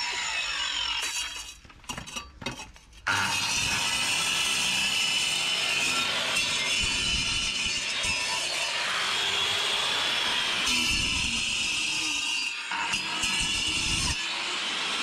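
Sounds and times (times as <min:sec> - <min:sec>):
angle grinder cutting concrete: 0:00.0 - 0:01.6, 0:03.1 - 0:15.0.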